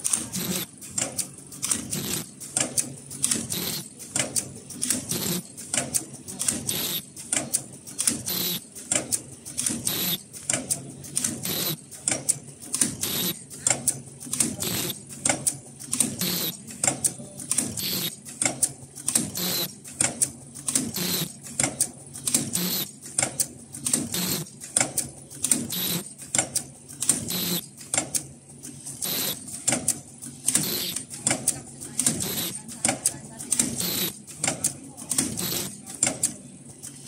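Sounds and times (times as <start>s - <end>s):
welding machine clicking and clacking: 0.0s - 37.0s.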